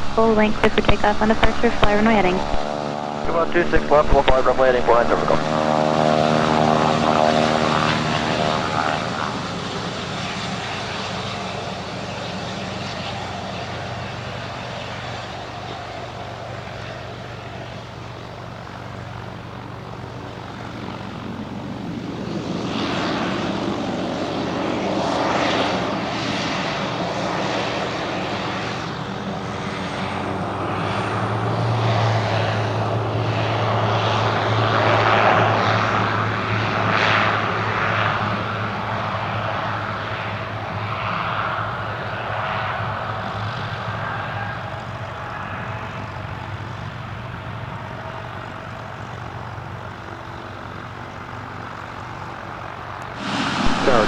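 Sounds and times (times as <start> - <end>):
turboprop plane taking off: 0.0 - 54.0.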